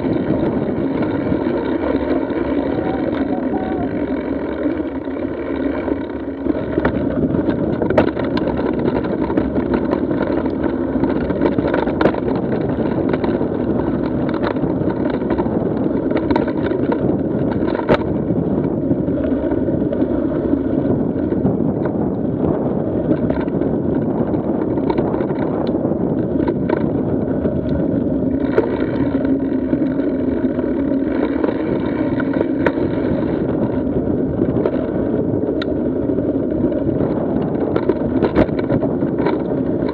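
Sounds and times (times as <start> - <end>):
bike clicks and knocks: 0.0 - 39.9
tyres rumbling over rocky trail: 0.0 - 39.9
wind: 0.0 - 39.9.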